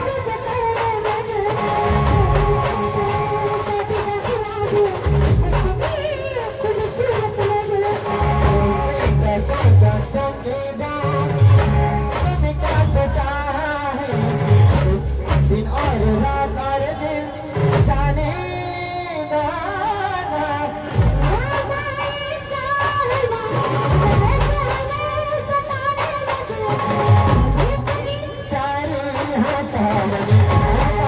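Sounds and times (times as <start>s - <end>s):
heavy bass drum beats: 1.1s - 10.6s, 11.2s - 18.8s, 20.9s - 31.0s.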